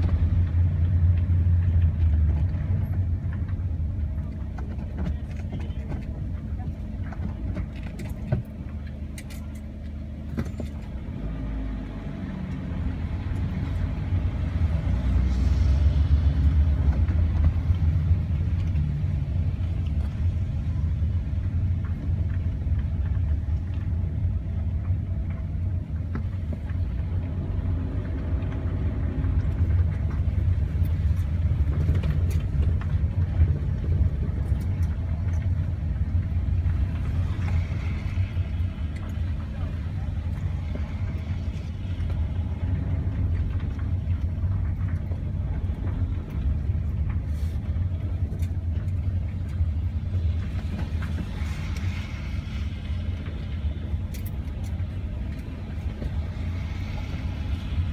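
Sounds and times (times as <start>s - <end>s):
car engine and road rumble: 0.0s - 57.9s.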